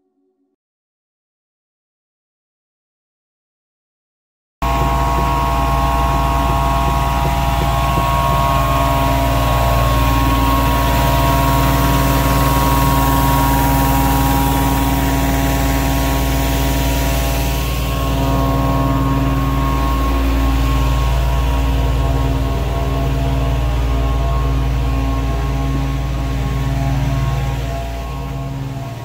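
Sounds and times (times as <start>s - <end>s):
engine and vacuum blower drone: 4.6s - 29.0s
whining tones: 4.6s - 29.0s.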